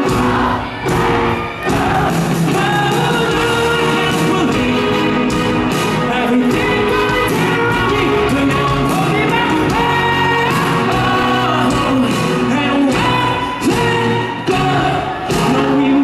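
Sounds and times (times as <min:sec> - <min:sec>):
live pop-rock band: 0:00.0 - 0:16.0
man singing: 0:02.4 - 0:16.0.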